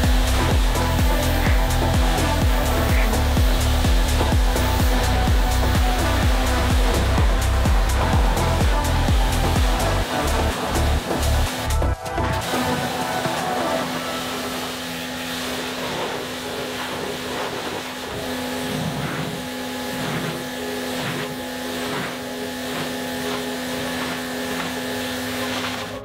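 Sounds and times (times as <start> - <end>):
pressure washer spraying water: 0.0 - 26.0
steady hum: 0.0 - 26.0.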